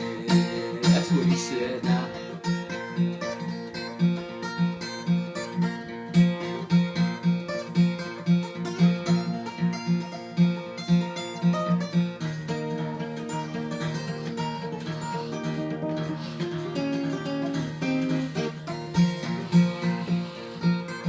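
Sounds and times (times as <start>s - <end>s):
fingerpicked acoustic guitar: 0.0s - 21.0s.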